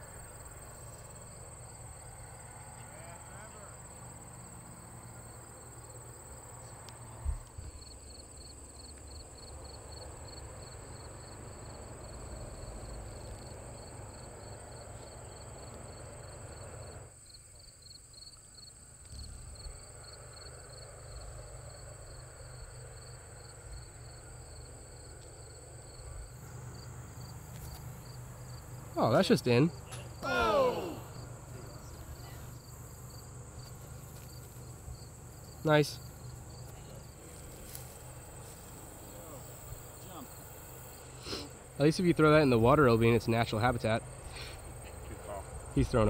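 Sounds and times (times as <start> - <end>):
high insect trill: 0.0 - 46.0
insects chirping: 0.0 - 46.0.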